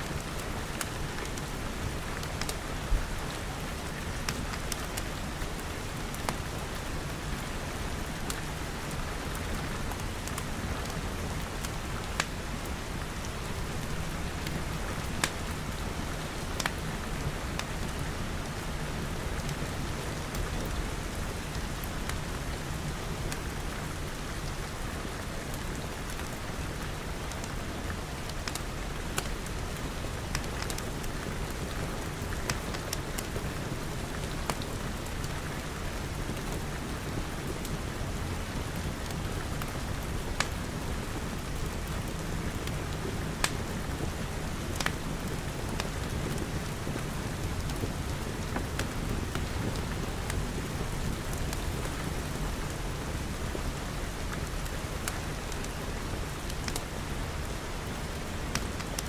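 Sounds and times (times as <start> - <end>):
rain pattering: 0.0 - 59.0
wood fire crackling: 0.1 - 59.0.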